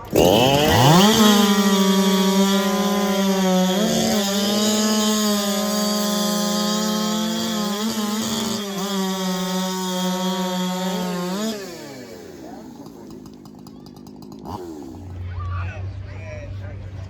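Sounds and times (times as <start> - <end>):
chainsaw running flat out: 0.0 - 15.3.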